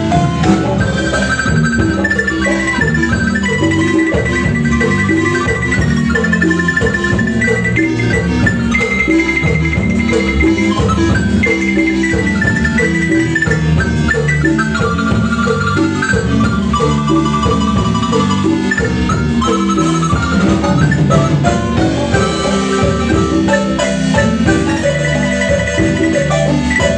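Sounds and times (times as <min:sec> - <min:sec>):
marimba music: 0:00.0 - 0:26.9.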